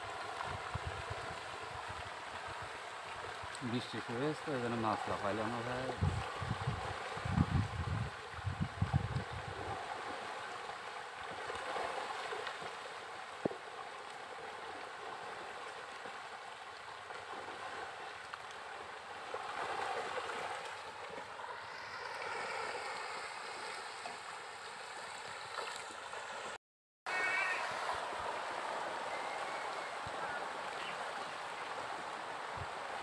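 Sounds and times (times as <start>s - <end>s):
pond water splashing: 0.0s - 33.0s.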